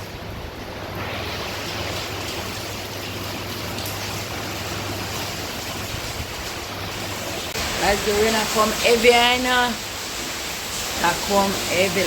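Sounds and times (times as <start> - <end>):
heavy rain: 0.0 - 12.0
wind: 0.0 - 12.0.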